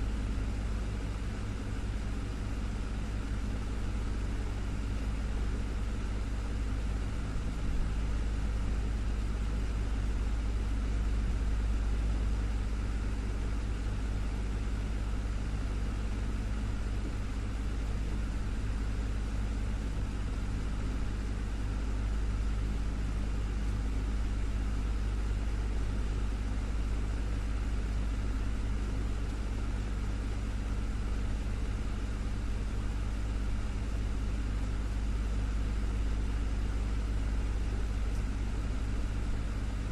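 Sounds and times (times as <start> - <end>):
desktop fan humming: 0.0 - 39.9.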